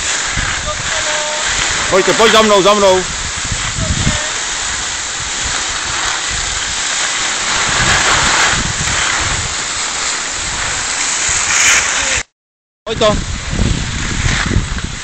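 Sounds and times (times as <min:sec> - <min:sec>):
wind buffeting microphone: 0:00.0 - 0:12.2, 0:12.9 - 0:15.0
skis scraping over snow: 0:00.0 - 0:12.3, 0:13.4 - 0:15.0.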